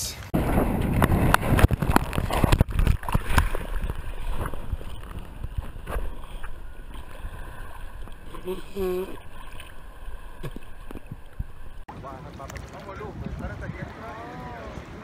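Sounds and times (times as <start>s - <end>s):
water hitting camera: 0.4s - 14.8s
seawater sloshing and splashing: 0.4s - 15.0s.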